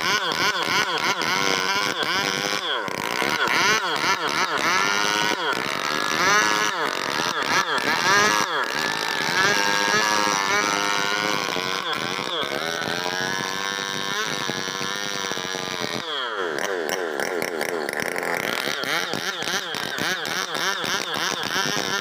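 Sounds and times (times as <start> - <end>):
chainsaw cutting: 0.0 - 22.0.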